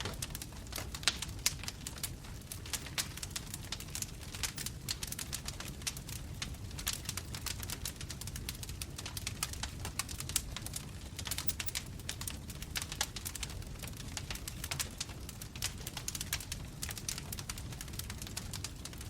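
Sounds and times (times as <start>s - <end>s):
burning wood crackling: 0.0s - 19.0s
low rumble of flames: 0.0s - 19.0s.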